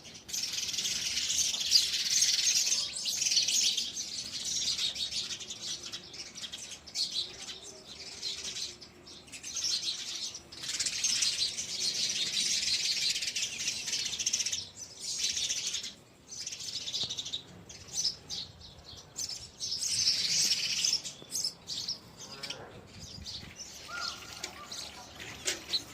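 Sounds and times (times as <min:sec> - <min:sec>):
sparrows chirping: 0:00.0 - 0:25.9.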